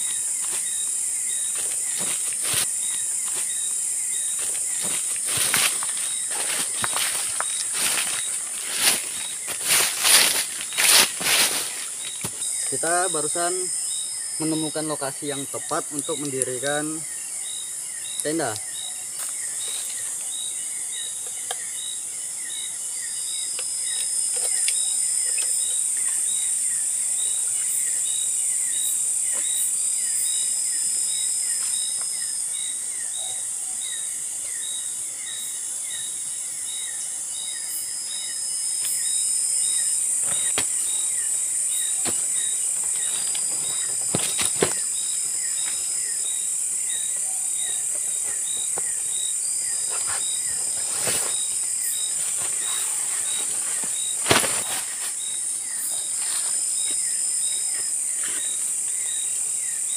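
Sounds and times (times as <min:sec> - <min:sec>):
insect chorus shrilling: 0:00.0 - 0:59.9.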